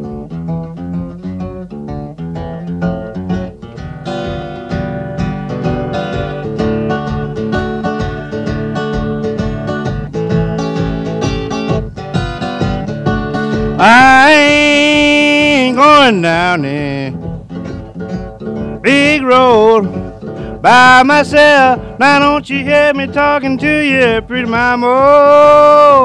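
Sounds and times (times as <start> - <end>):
acoustic guitar blues: 0.0 - 26.0.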